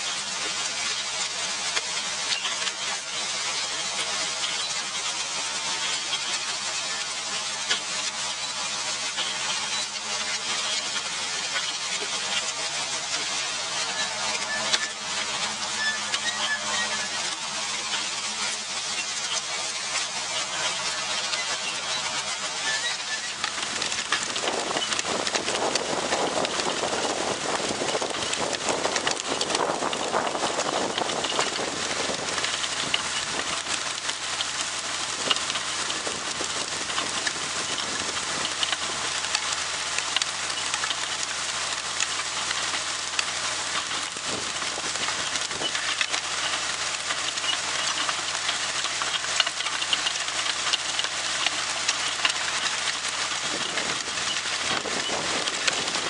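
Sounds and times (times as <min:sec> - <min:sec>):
disc harrow hissing and rattling: 0:00.0 - 0:56.0
tractor engine drone: 0:00.0 - 0:56.0.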